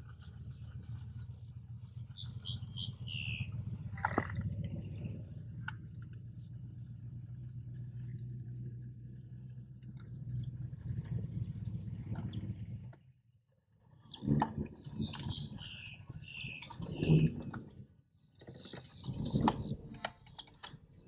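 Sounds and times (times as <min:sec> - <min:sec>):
outboard motor running: 0:00.0 - 0:13.2, 0:13.8 - 0:21.0.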